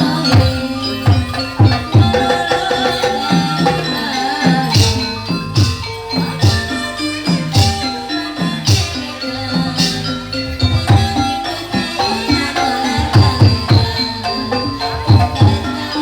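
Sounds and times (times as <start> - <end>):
metallophone melody: 0.0 - 16.0.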